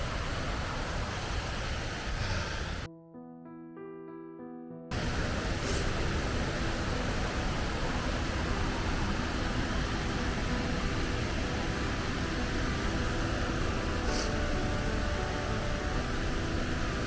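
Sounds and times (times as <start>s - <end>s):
rushing water: 0.0s - 2.9s, 4.9s - 17.0s.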